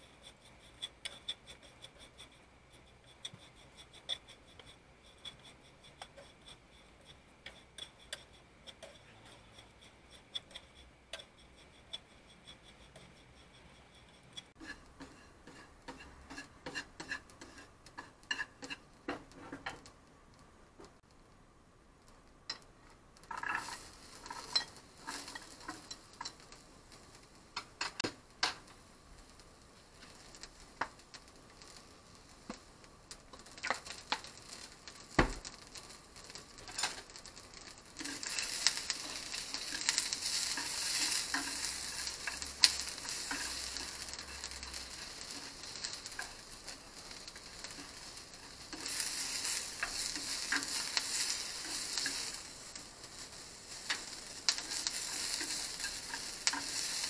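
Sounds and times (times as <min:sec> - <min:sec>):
chopsticks stirring: 0:00.0 - 0:19.9, 0:23.3 - 0:28.6, 0:29.9 - 0:57.0
food sizzling in frying pan: 0:00.0 - 0:20.0, 0:22.1 - 0:57.0
small ticks and clicks in pan: 0:00.0 - 0:21.4, 0:22.0 - 0:57.0.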